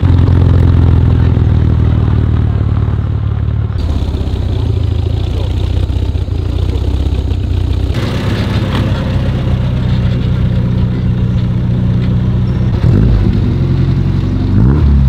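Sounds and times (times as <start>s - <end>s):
car engine idling: 0.0s - 14.7s.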